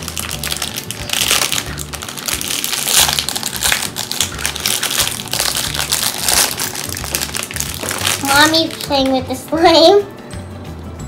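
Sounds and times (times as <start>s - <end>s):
plastic bag crinkling: 0.0s - 9.4s
background music: 0.0s - 11.0s.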